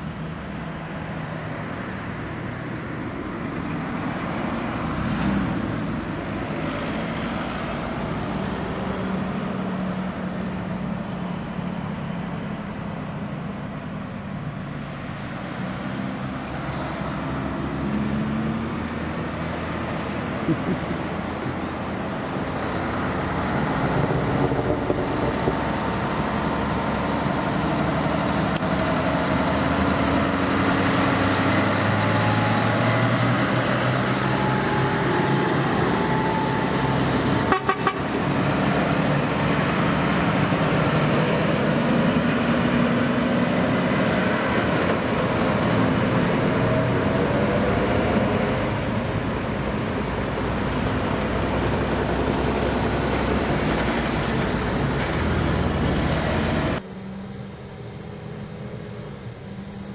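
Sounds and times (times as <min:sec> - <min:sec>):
truck diesel engines droning: 0:00.0 - 0:59.9.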